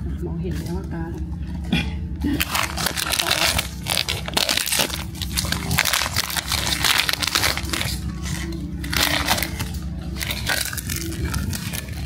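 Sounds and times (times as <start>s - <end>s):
foil bag crinkling and tearing: 2.3s - 12.0s.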